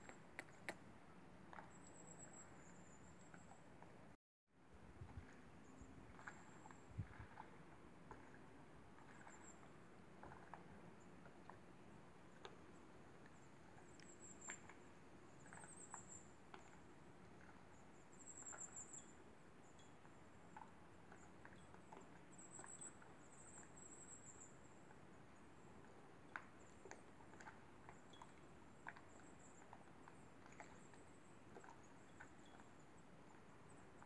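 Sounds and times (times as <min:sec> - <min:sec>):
faint background hum: 0:00.0 - 0:34.0.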